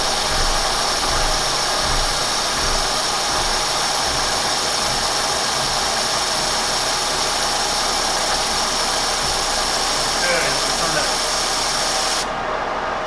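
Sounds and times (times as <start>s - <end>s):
milling machine cutting: 0.0s - 11.8s.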